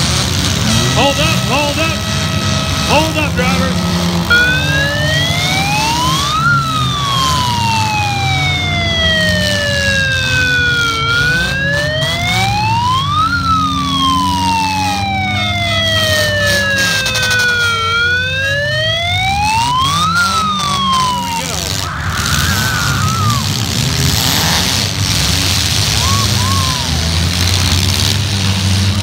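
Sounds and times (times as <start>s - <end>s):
car engines running: 0.0s - 29.0s
siren wailing: 0.0s - 29.0s.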